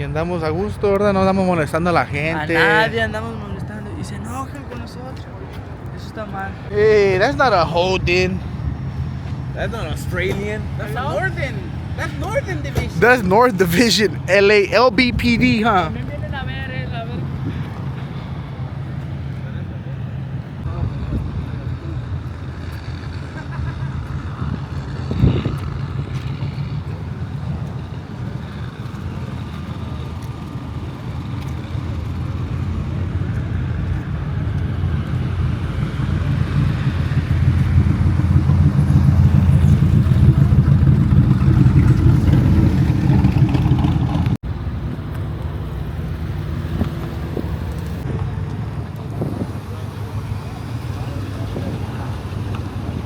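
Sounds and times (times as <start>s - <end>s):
car engine rumbling: 1.5s - 53.0s.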